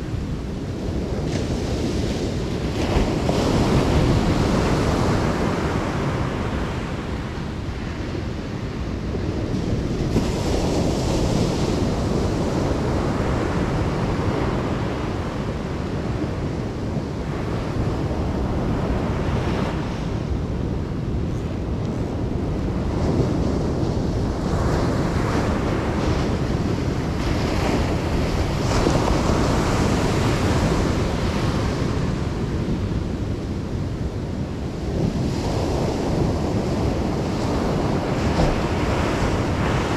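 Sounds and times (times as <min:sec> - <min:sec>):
ocean surf breaking: 0:00.0 - 0:39.9
wind rumbling on microphone: 0:00.0 - 0:39.9.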